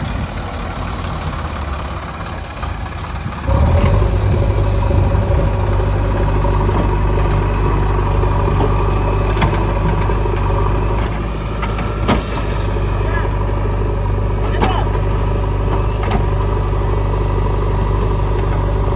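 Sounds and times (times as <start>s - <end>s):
heavy diesel engine revving: 0.0s - 18.9s.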